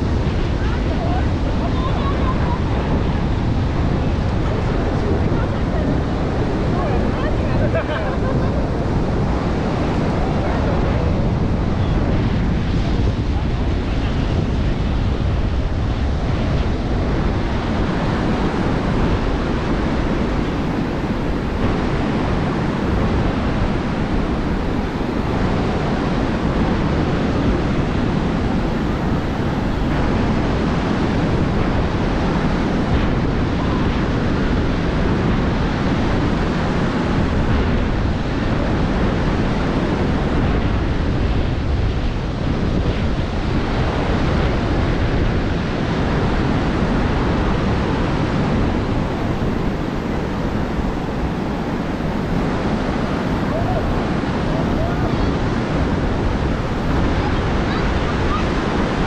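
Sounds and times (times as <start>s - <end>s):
surf washing onto beach: 0.0s - 59.0s
wind buffeting microphone: 0.0s - 59.0s.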